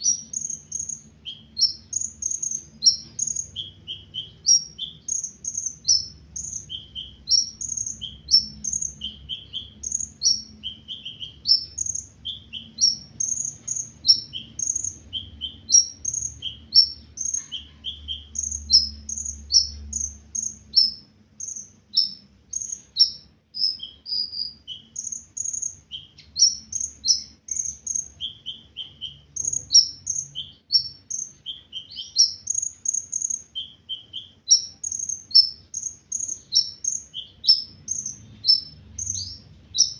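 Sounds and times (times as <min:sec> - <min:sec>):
sunbird singing high chirps: 0:00.0 - 0:39.9.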